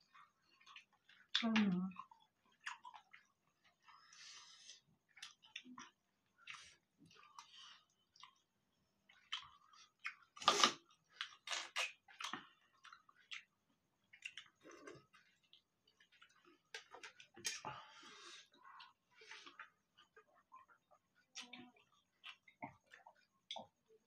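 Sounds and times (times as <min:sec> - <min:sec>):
people chewing: 0:00.0 - 0:23.9.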